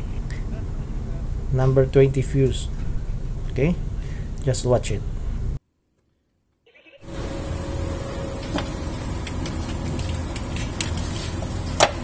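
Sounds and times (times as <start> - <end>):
engine room machinery drone: 0.0 - 5.6, 7.0 - 12.0.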